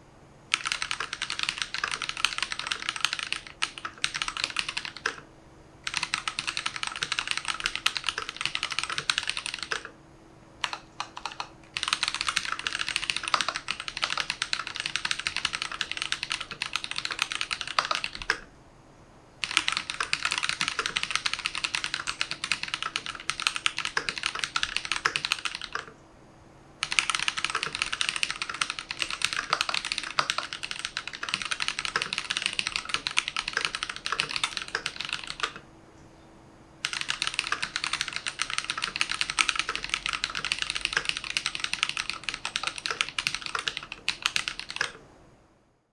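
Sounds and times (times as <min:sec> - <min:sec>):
mechanical keyboard typing: 0:00.5 - 0:10.0, 0:10.6 - 0:18.5, 0:19.4 - 0:26.0, 0:26.8 - 0:35.6, 0:36.8 - 0:45.0.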